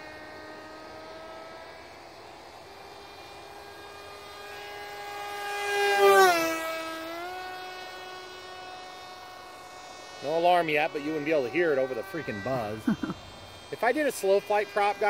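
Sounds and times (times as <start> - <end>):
model plane motor buzzing: 0.0 - 15.0.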